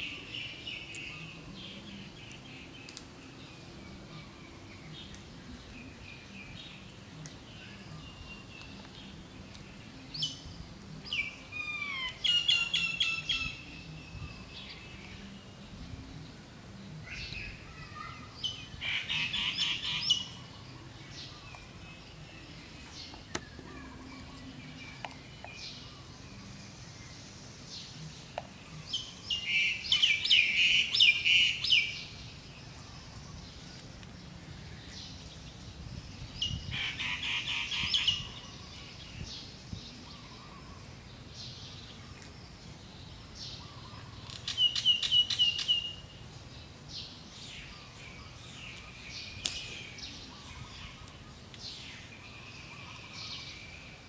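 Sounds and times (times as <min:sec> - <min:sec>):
birds chirping: 0:00.0 - 0:54.0
low background noise: 0:00.0 - 0:54.0.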